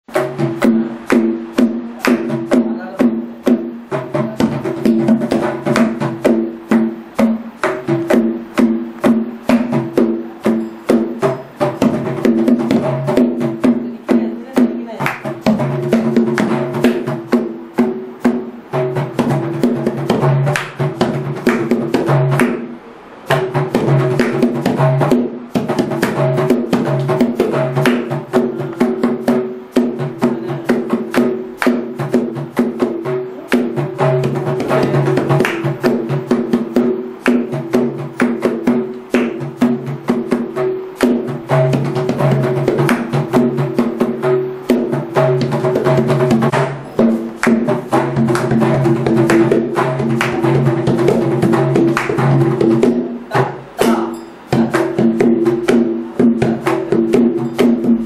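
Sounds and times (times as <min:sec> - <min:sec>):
drum played in fast patterns: 0:00.1 - 0:58.0.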